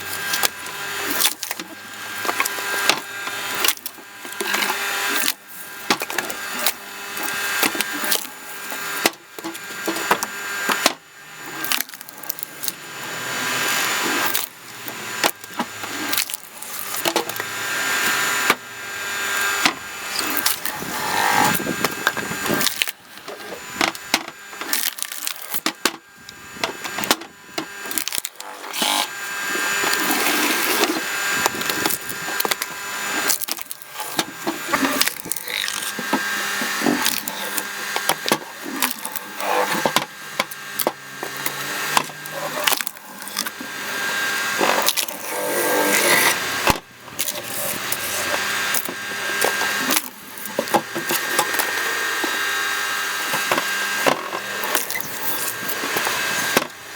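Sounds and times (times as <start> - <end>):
log splitter running: 0.0 - 56.9
wood cracking and splintering: 0.0 - 56.9.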